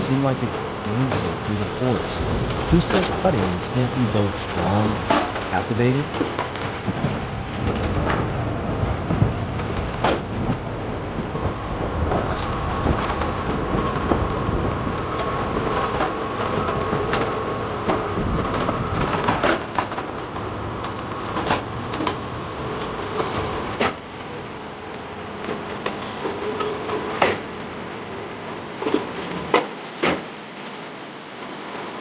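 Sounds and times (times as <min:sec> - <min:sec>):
machine whine: 0:00.0 - 0:30.0.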